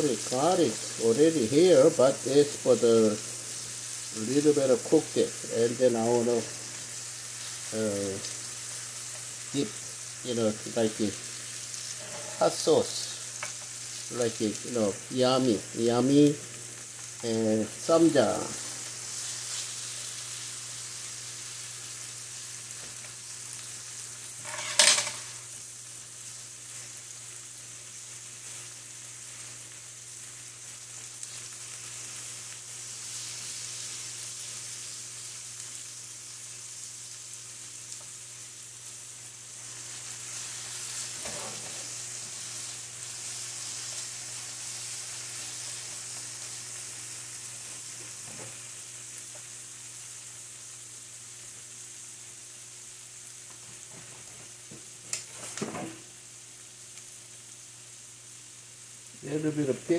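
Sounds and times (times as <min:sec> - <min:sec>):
meat sizzling in a frying pan: 0:00.0 - 0:59.9.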